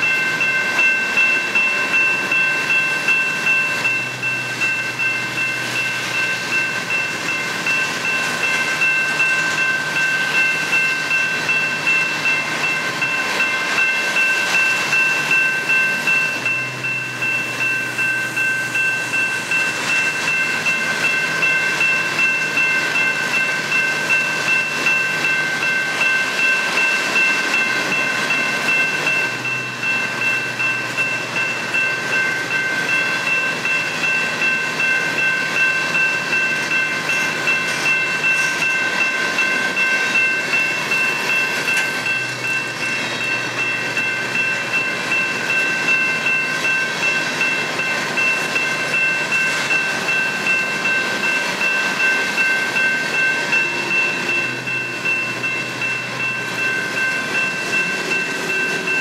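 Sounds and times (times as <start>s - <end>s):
crossing bell ringing: 0.0s - 59.0s
freight train rolling past: 0.0s - 59.0s.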